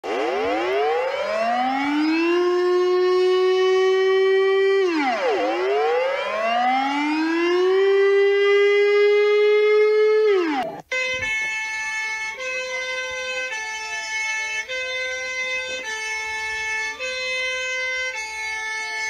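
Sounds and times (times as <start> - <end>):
civil defense siren winding up: 0.0 - 19.0.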